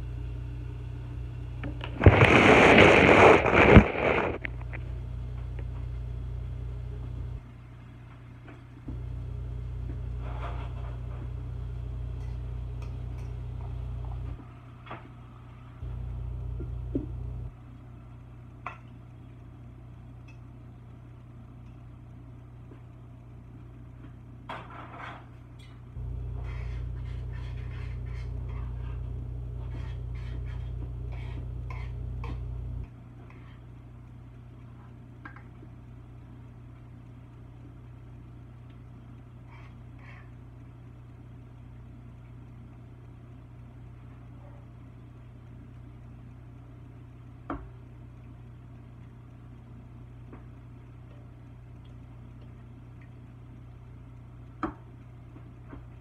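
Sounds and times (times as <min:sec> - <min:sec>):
low hum: 0:00.0 - 0:24.4, 0:25.4 - 0:56.0.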